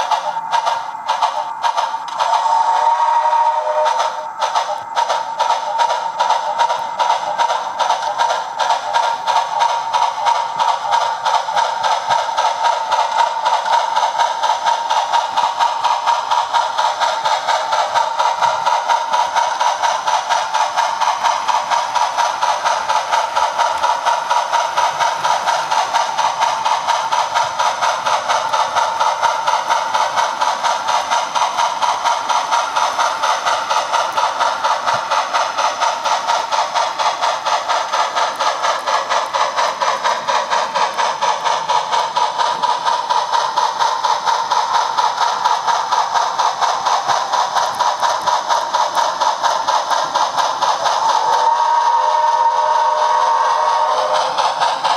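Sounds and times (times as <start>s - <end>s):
model train motor whine: 0.0s - 54.9s
train wheels clicking: 0.0s - 54.9s.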